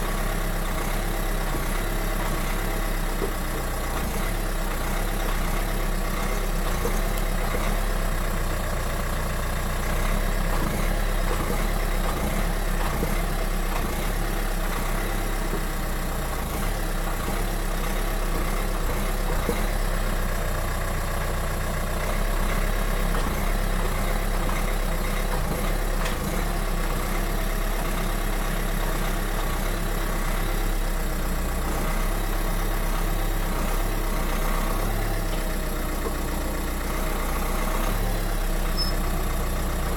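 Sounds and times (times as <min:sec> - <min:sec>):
car engine and drivetrain running: 0:00.0 - 0:39.9.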